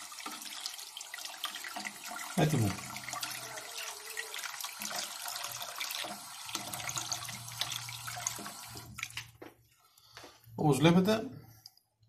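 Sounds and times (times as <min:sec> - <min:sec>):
tap water running and splashing: 0:00.0 - 0:10.4.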